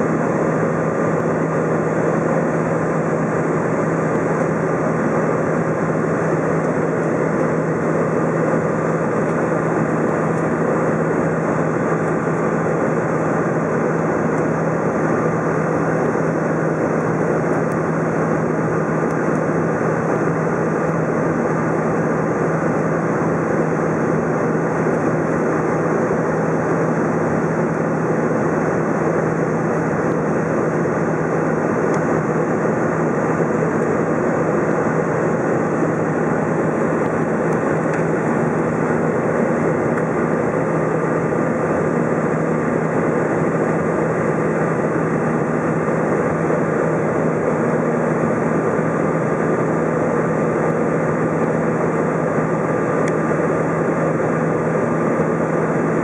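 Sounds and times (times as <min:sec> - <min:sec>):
airplane engine drone: 0:00.0 - 0:56.0
steady low hum: 0:00.0 - 0:56.0.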